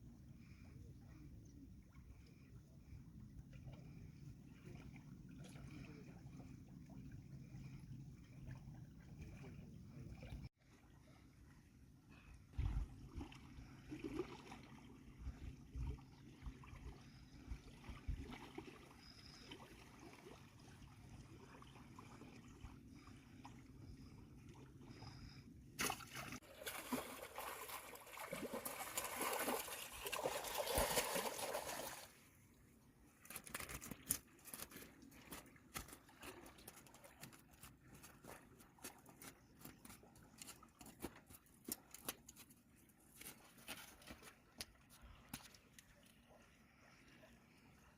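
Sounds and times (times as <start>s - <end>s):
water sloshing and splashing: 2.1s - 47.9s.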